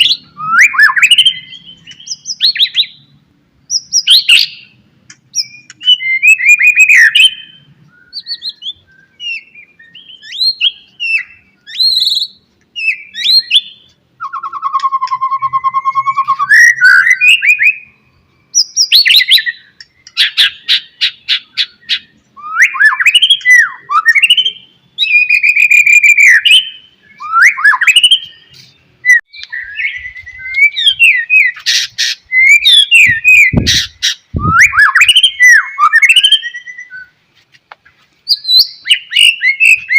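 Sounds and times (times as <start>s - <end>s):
bird singing whistled song: 0.0s - 3.1s, 3.7s - 37.2s, 38.2s - 39.9s.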